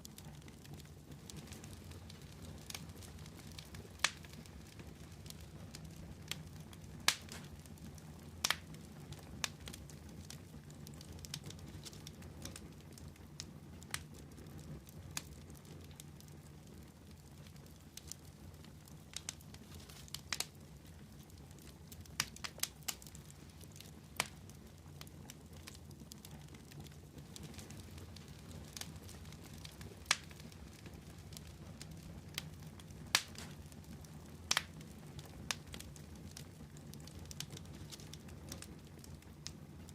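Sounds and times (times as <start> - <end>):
fire popping and crackling: 0.0 - 39.9
wood fire burning: 0.0 - 39.9.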